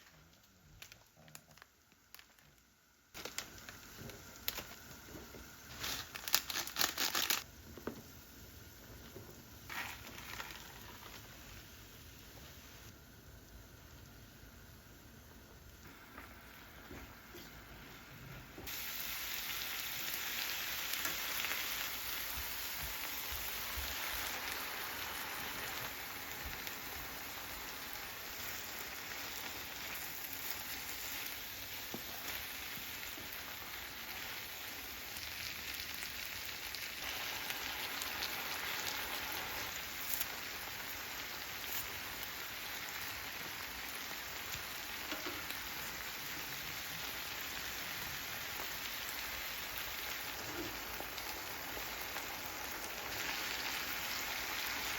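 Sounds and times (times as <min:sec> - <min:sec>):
food sizzling in hot oil: 0:03.0 - 0:54.9.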